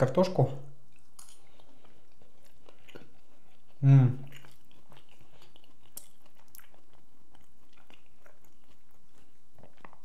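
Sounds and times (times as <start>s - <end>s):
person chewing: 0.8s - 10.0s.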